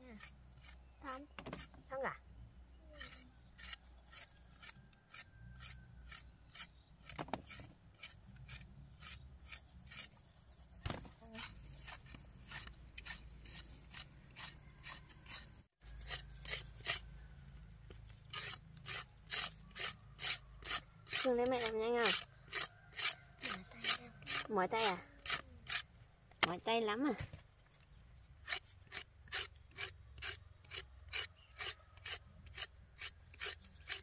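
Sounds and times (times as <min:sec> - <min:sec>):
rasping scrapes on roots: 0:00.0 - 0:01.8, 0:03.0 - 0:17.3, 0:18.0 - 0:26.6, 0:27.8 - 0:34.0.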